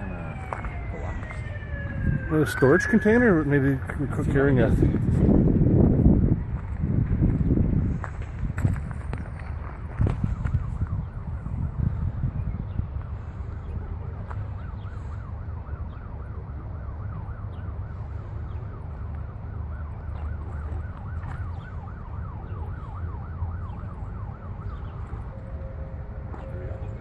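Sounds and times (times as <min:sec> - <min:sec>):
emergency siren yelping: 0:00.0 - 0:05.1, 0:09.9 - 0:27.0.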